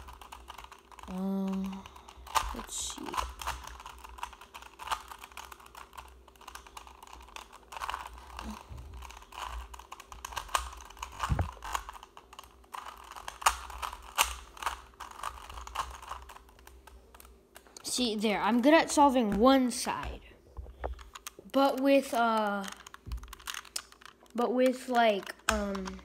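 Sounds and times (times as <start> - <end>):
puzzle cube plastic clicking: 0.0 - 20.2, 20.8 - 26.0.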